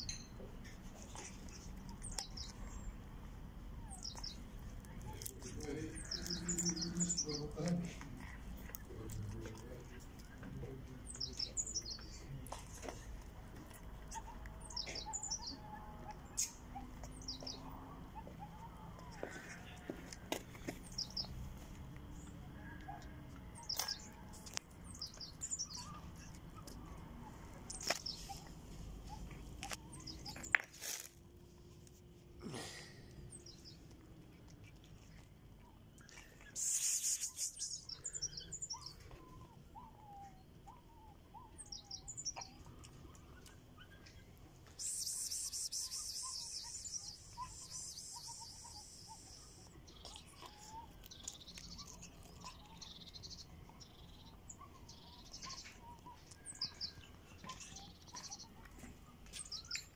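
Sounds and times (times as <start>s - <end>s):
small birds chirping: 0.0s - 31.0s, 31.6s - 59.9s.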